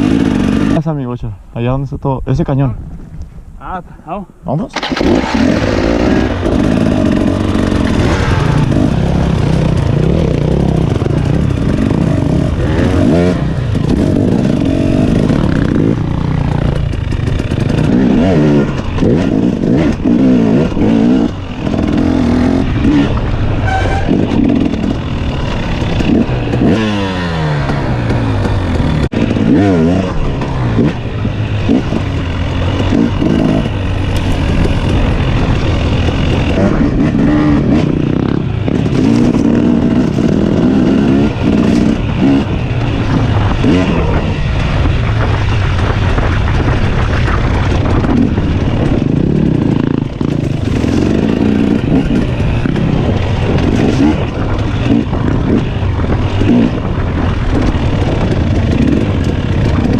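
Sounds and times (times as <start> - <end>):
dirt bike engine revving: 0.0 - 0.8, 4.7 - 59.9.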